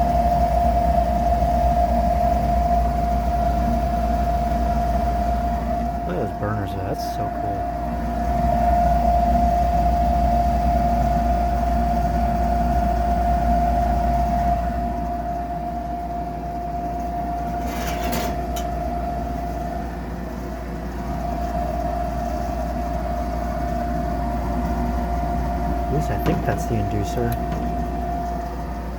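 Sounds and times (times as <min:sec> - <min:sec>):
furnace burner rumble: 0:00.0 - 0:28.9
inducer motor whine: 0:00.0 - 0:28.9.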